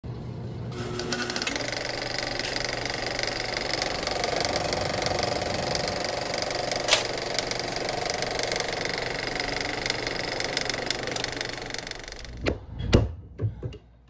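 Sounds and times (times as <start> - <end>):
machine rattling: 0.8 - 12.5.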